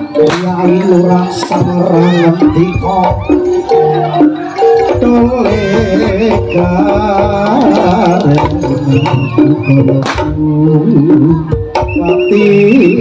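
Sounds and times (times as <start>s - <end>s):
hand drums beating fast: 0.0s - 13.0s
metallophone notes: 0.0s - 13.0s
wavering melody line: 0.0s - 13.0s.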